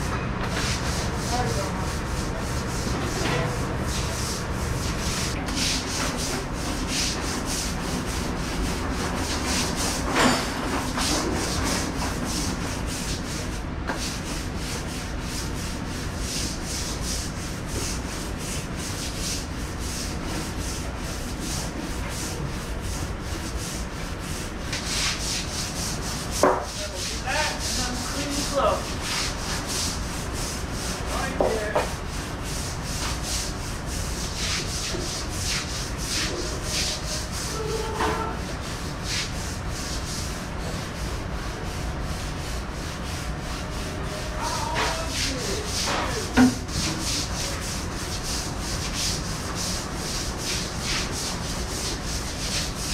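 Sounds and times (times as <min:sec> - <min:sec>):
deck brush scrubbing floor: 0:00.0 - 0:52.9
steady background hum: 0:00.0 - 0:52.9.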